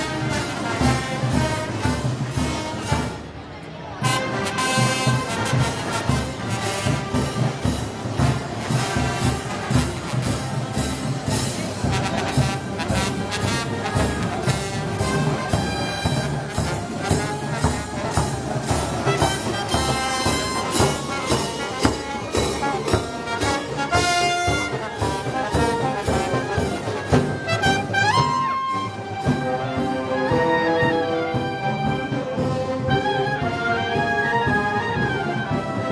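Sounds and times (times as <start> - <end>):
steady drum beat: 0.0 - 3.3, 4.0 - 35.9
brass band playing: 0.0 - 35.9.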